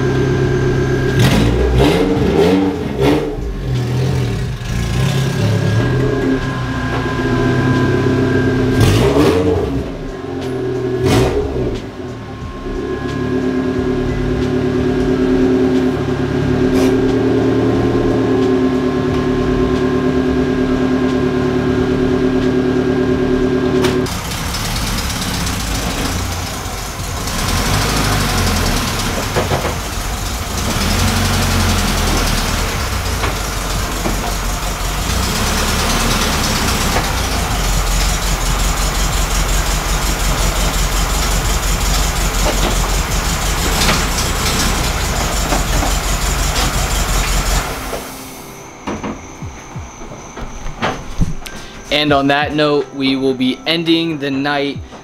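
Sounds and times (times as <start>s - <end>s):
bus engine running at low speed: 0.0s - 48.4s
car engine running: 0.0s - 48.4s.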